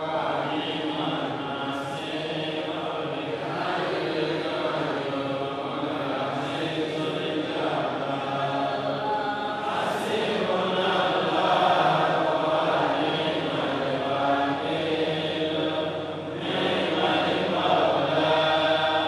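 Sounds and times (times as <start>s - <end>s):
man chanting: 0.0s - 19.0s.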